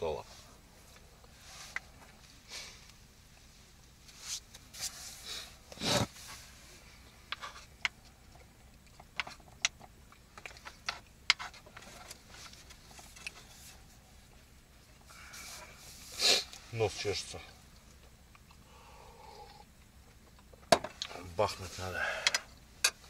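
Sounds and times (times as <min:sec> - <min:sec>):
rustle: 0:00.0 - 0:23.0.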